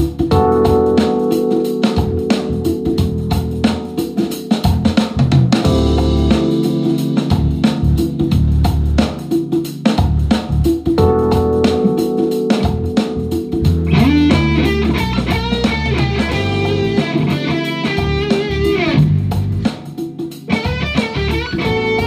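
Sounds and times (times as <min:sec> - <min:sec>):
drum kit beat: 0:00.0 - 0:22.0
organ-like keyboard chords: 0:00.0 - 0:22.0.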